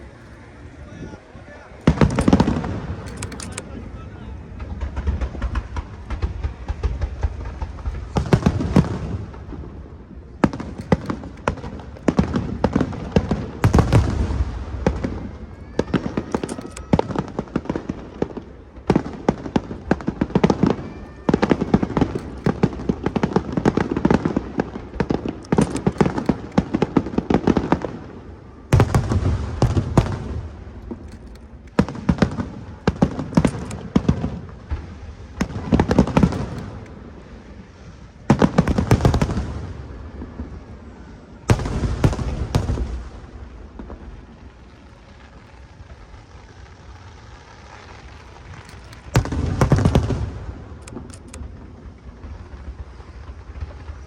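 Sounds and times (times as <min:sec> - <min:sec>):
fireworks crackling: 0:00.0 - 0:54.0
fireworks booms: 0:01.8 - 0:54.0
rising firework whistles: 0:04.4 - 0:54.0.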